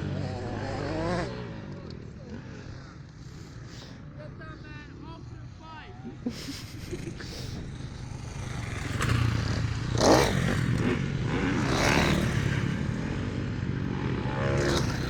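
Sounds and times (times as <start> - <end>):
motorbike passing close: 0.0 - 4.3, 6.1 - 15.0
motocross bikes revving: 0.0 - 15.0.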